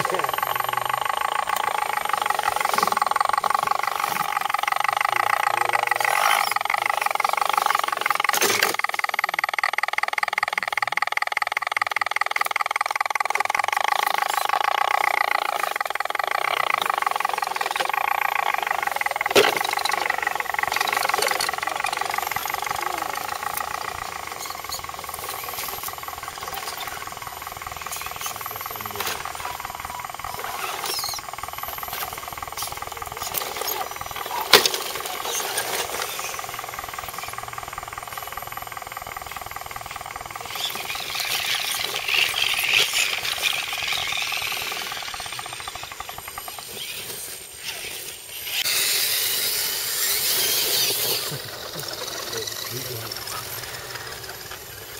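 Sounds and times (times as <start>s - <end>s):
rc truck motors whining: 0.0s - 54.9s.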